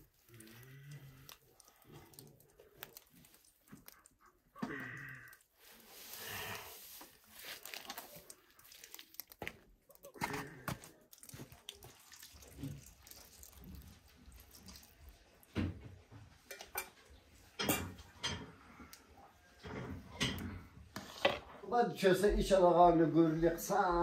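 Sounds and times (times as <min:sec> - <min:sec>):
porridge bubbling in a pot: 0:00.0 - 0:21.4.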